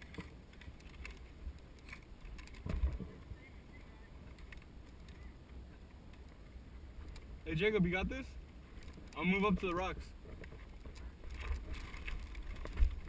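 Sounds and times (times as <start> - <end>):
faint clicks and rattles: 0.0 - 7.3, 8.6 - 13.0.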